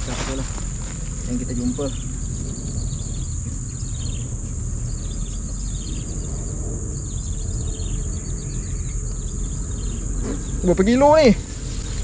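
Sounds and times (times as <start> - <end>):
high-pitched insect drone: 0.0 - 12.0
insect chirping calls: 0.0 - 12.0
low rumble: 0.0 - 12.0.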